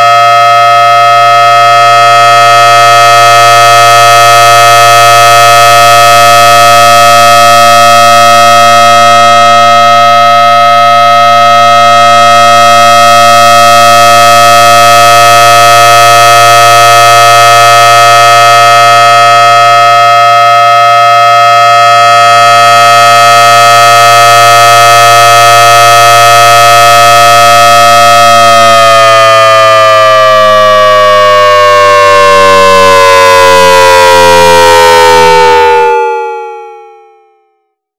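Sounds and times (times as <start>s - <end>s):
warning siren multi-tone chord: 0.0s - 37.9s.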